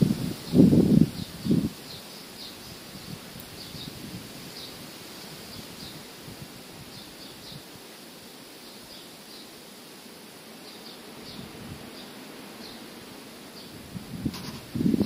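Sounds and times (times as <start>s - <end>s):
wind rustling leafy trees: 0.0s - 15.0s.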